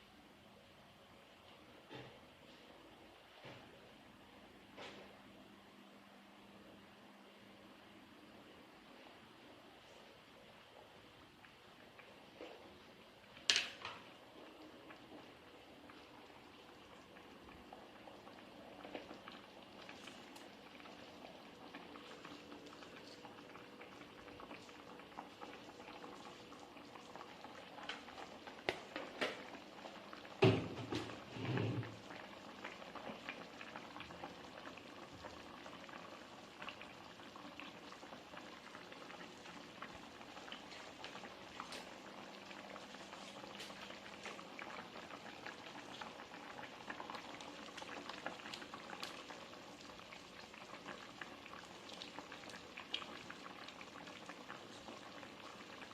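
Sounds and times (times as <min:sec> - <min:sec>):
sauce bubbling in a pan: 0:08.3 - 0:55.9.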